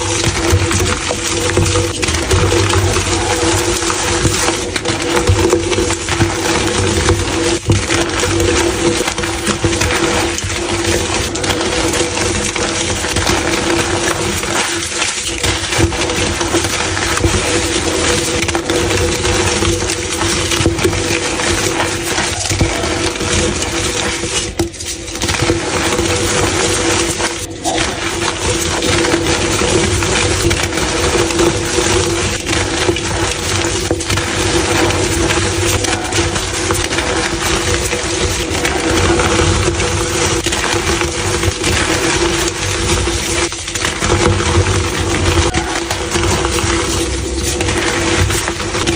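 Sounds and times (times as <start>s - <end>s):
chalk crunching and crumbling: 0.0s - 48.9s.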